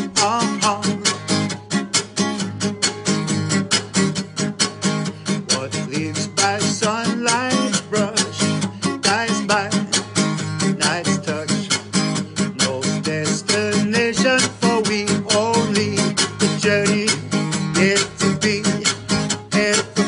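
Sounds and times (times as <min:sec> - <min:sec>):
acoustic guitar strummed hard: 0:00.0 - 0:20.0.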